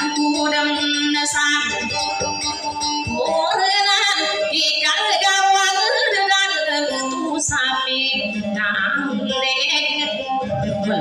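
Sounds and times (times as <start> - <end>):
woman singing: 0.0 - 2.1, 3.0 - 11.0
plucked acoustic guitar: 0.0 - 11.0
plucked string instrument: 0.0 - 11.0.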